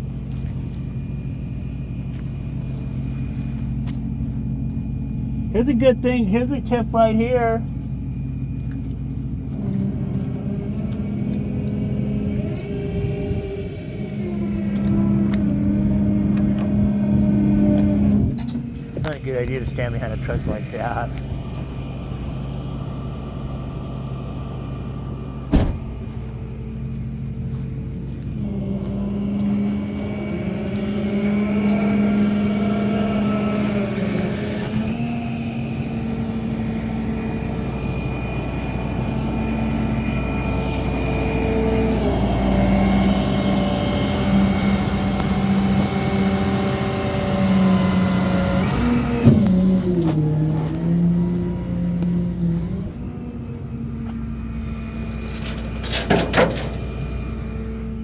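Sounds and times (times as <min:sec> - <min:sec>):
tow truck engine running: 0:00.0 - 0:58.0.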